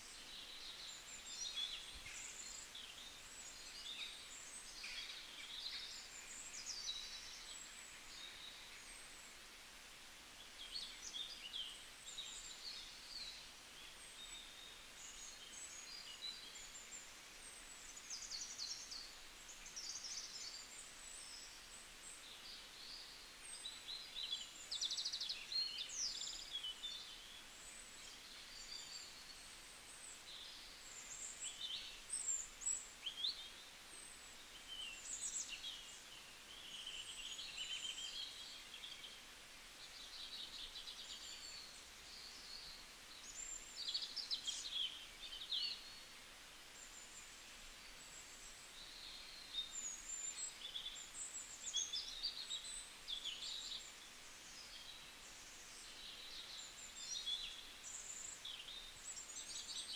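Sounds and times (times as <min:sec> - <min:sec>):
faint steady hiss: 0:00.0 - 0:59.9
songbirds chirping and twittering: 0:00.0 - 0:59.9.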